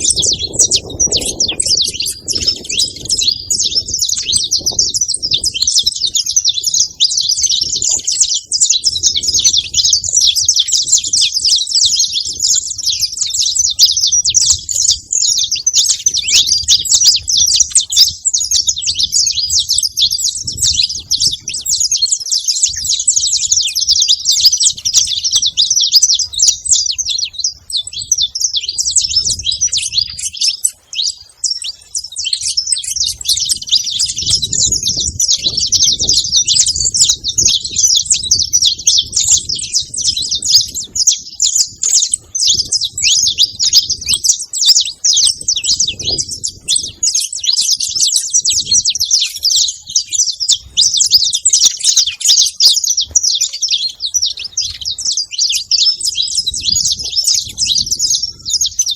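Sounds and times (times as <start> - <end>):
finch chirping and singing: 0.0 - 58.9.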